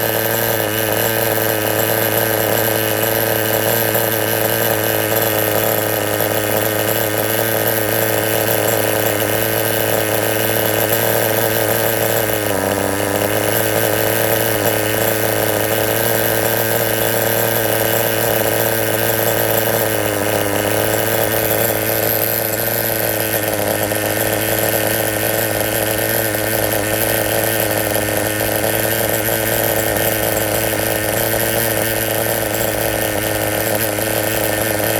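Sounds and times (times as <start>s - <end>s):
engine running through exhaust: 0.0s - 34.9s.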